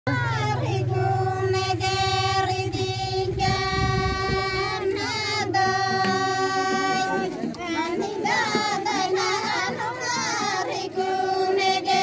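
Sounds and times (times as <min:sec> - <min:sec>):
women singing in unison: 0:00.1 - 0:12.0.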